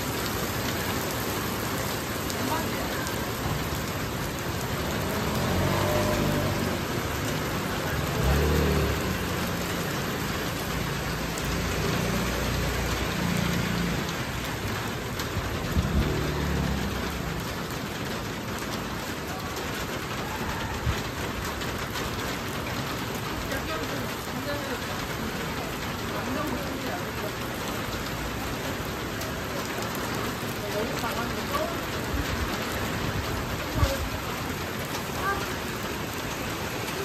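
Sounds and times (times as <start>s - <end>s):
cars passing on wet road: 0.0s - 37.0s
heavy rain on pavement: 0.0s - 37.0s.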